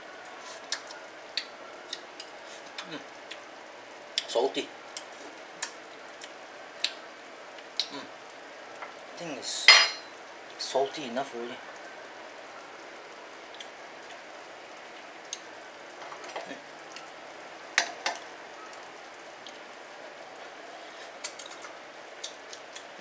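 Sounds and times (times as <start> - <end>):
sauce bubbling and sizzling: 0.0 - 23.0.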